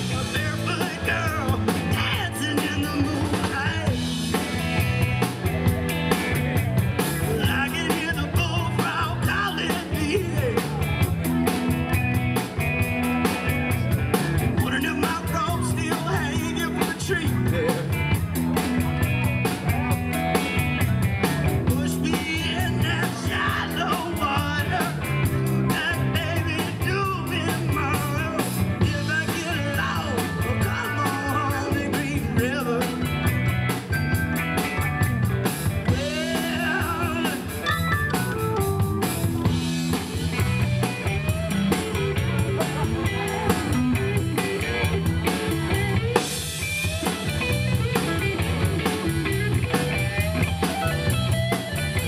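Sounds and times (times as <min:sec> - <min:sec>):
rock band playing: 0:00.0 - 0:52.0.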